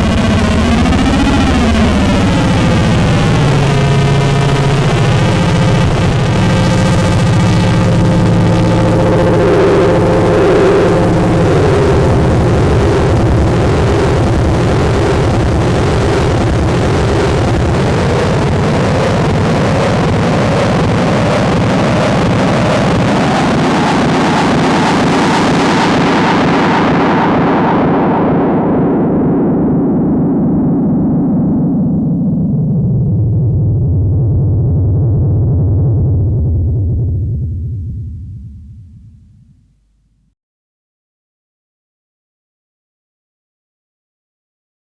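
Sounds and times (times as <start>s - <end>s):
electronic ufo drone warbling: 0.0s - 39.6s
low hum: 0.0s - 40.2s.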